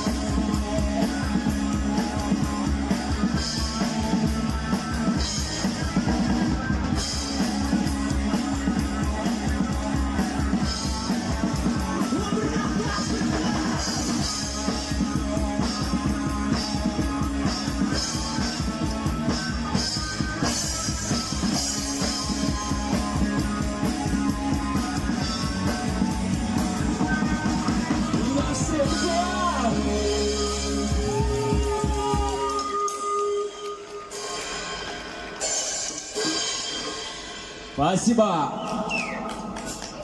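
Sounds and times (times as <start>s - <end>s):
guitars: 0.0s - 37.2s
drum kit beating: 0.0s - 40.0s
rock music: 0.0s - 40.0s.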